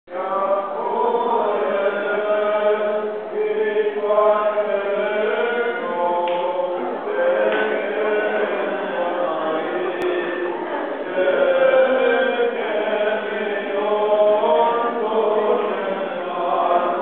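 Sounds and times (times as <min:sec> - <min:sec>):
church chanting: 0:00.1 - 0:17.0.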